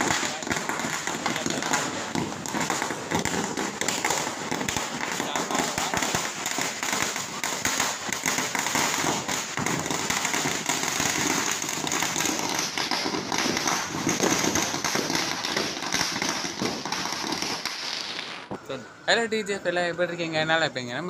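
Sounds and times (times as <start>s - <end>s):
firecrackers cracking rapidly: 0.0s - 18.6s.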